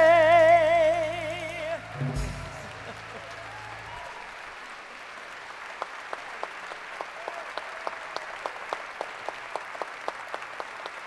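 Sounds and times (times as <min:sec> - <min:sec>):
audience applauding: 0:01.7 - 0:11.0.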